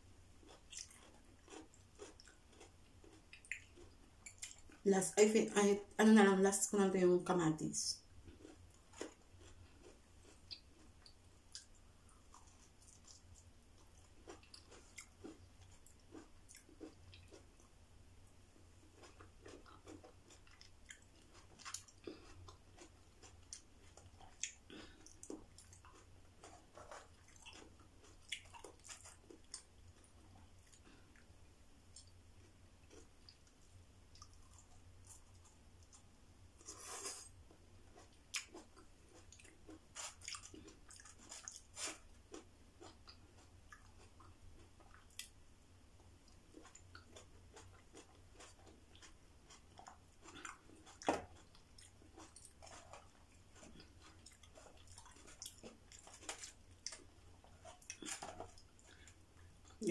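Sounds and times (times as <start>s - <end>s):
faint low hum: 0.0s - 59.9s
chewing raw vegetables: 0.4s - 4.9s, 8.0s - 17.8s, 18.4s - 59.9s.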